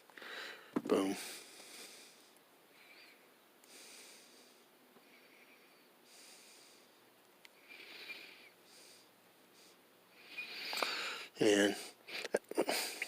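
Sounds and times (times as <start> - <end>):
soft breathing: 0.1 - 13.0.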